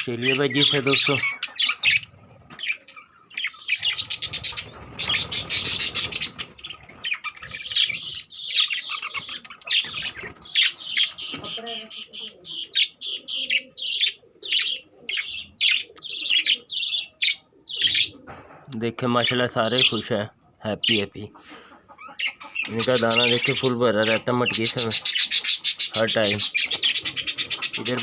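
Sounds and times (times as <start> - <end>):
budgerigars chattering and chirping: 0.0 - 18.2, 19.2 - 28.0.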